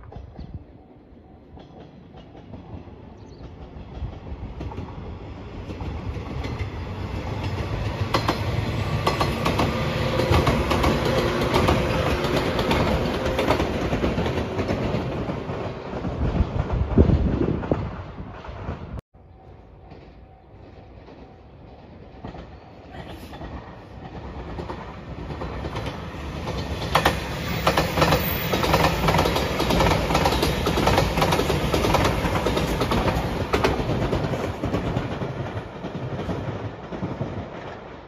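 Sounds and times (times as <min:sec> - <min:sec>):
train wheels clicking over rail joints: 0:01.5 - 0:16.9, 0:19.7 - 0:37.9.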